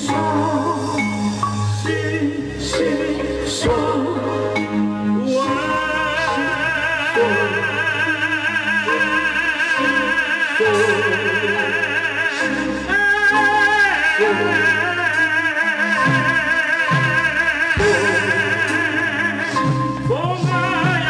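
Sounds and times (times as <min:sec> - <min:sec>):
singers singing together: 0:00.0 - 0:21.0
live band accompaniment: 0:00.1 - 0:21.0.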